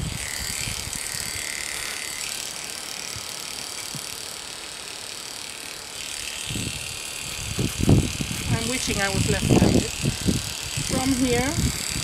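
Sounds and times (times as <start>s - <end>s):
electric clipper buzzing: 0.0s - 12.0s.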